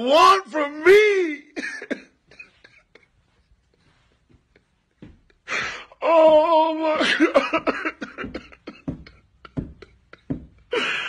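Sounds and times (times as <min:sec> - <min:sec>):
man crying and sobbing: 0:00.0 - 0:11.0.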